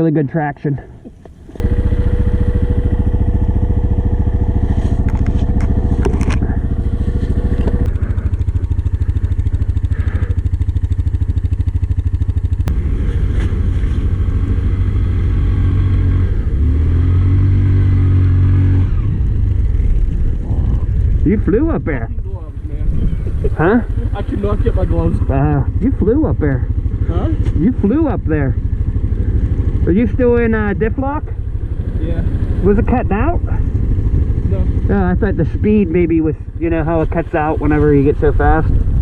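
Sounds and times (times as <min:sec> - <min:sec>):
atv engine throbbing: 0:00.0 - 0:39.0.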